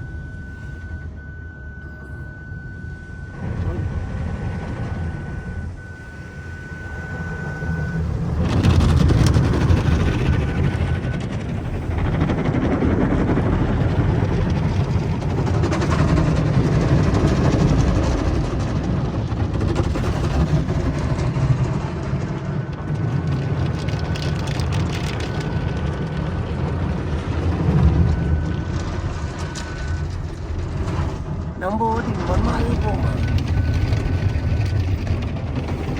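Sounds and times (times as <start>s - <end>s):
car wash machinery: 0.0s - 35.9s.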